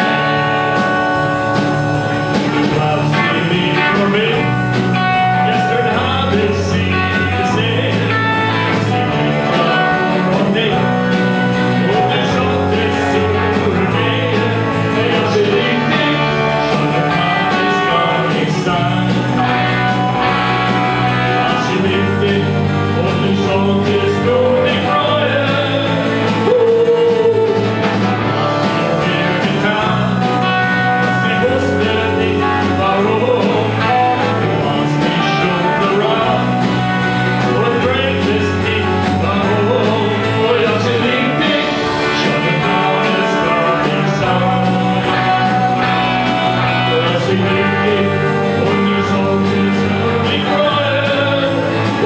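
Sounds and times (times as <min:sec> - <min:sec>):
drums: 0:00.0 - 0:52.0
guitar: 0:00.0 - 0:52.0
person singing: 0:00.0 - 0:52.0.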